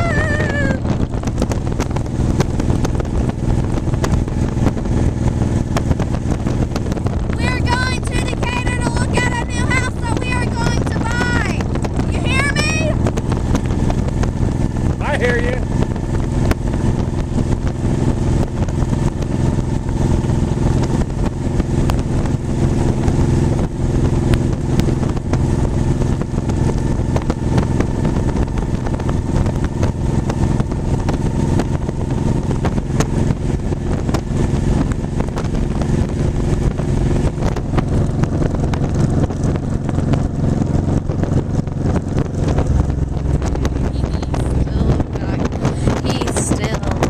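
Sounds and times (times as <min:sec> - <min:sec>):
motorcycle engine running: 0:00.0 - 0:47.0
road and wind rumble: 0:00.0 - 0:47.0.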